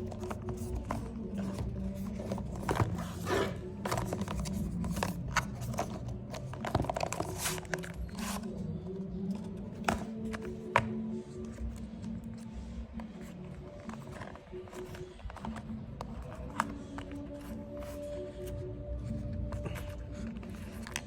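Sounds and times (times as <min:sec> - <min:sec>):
packaging rustling and scraping: 0:00.0 - 0:21.0
quiet background music: 0:00.0 - 0:21.0.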